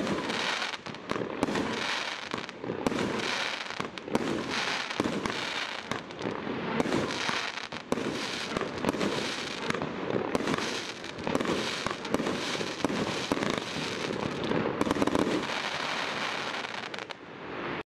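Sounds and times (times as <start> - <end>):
firework cake bangs and pops: 0.0 - 17.1.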